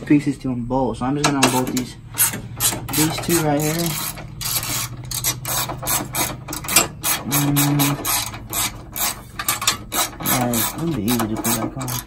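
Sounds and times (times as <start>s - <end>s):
ratchet wrench clicking: 1.3s - 12.0s.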